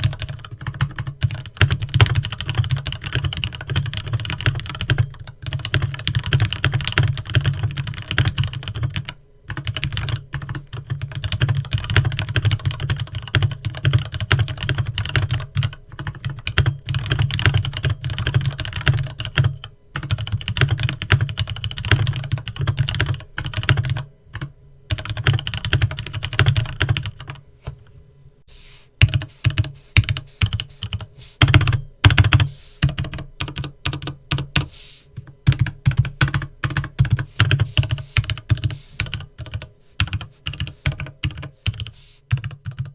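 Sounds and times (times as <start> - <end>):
mechanical keyboard typing: 0.0 - 27.4, 29.0 - 34.7, 35.4 - 42.9.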